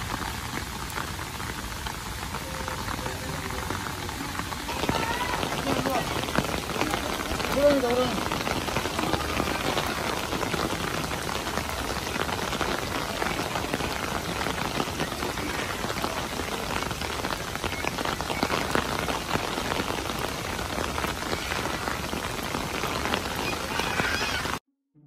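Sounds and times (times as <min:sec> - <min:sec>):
steady rain falling: 0:00.0 - 0:24.6.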